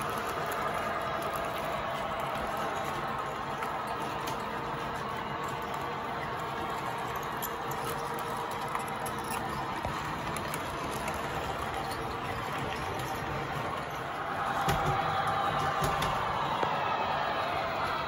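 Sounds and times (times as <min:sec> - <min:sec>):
wheels rolling on rail: 0:00.0 - 0:18.0.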